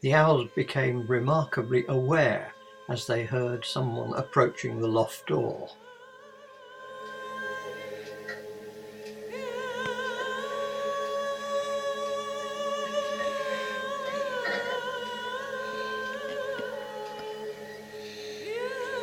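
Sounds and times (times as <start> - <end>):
high solo singing voice: 0.0 - 19.0
soft sustained accompaniment: 0.0 - 19.0.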